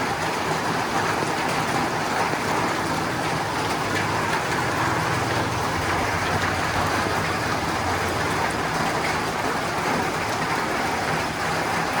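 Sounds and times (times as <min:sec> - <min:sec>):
rain on a tin roof: 0:00.0 - 0:12.0.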